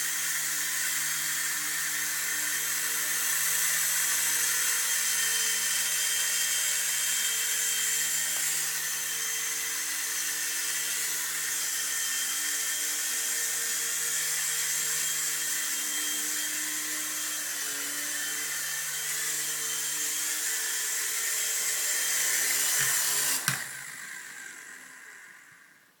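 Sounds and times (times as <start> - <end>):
toy helicopter motor whining: 0.0 - 25.9.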